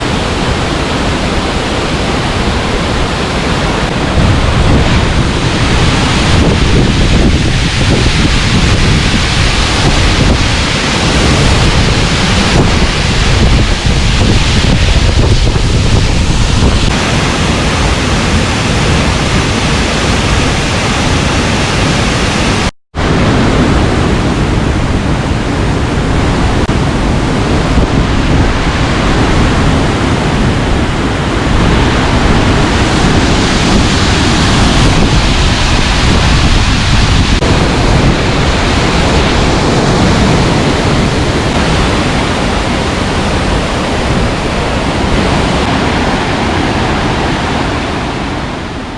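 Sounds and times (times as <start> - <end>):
waterfall rushing: 0.0 - 48.9
wind buffeting microphone: 0.0 - 48.9.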